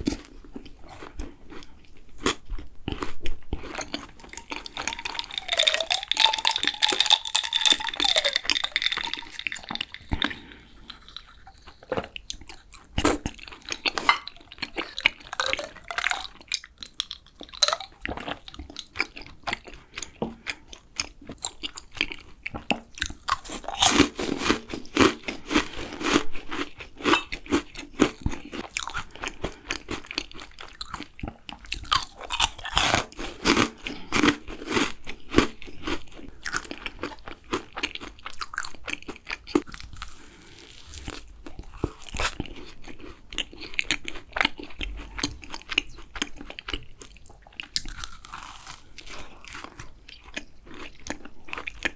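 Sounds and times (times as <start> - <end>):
crunching and chewing: 0.0 - 51.9.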